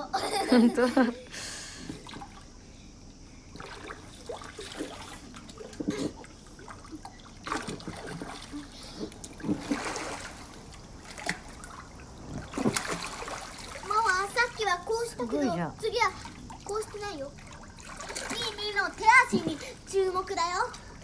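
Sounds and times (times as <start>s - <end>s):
water splashing in paddling pool: 1.7s - 2.6s, 3.4s - 21.0s.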